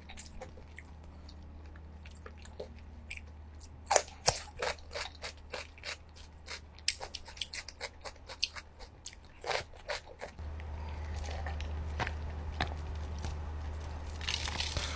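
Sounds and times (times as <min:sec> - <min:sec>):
crunching cucumber being chewed: 0:00.0 - 0:14.9.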